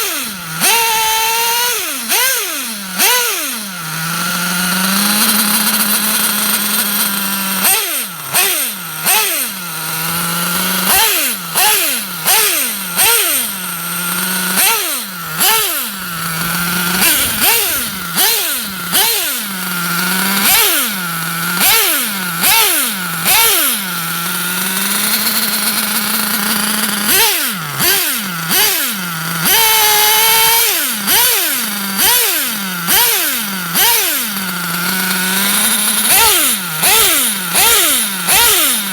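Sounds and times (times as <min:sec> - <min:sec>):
nitro engine idling and revving: 0:00.0 - 0:38.9.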